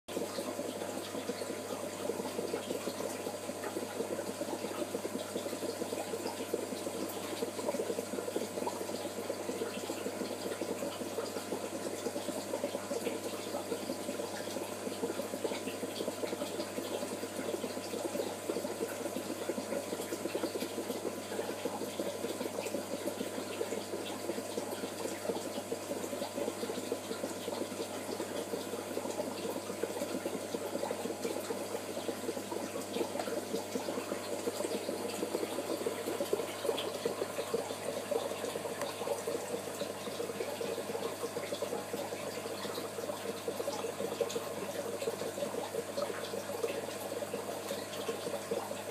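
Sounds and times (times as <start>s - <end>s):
aquarium water bubbling and trickling: 0.1s - 48.9s.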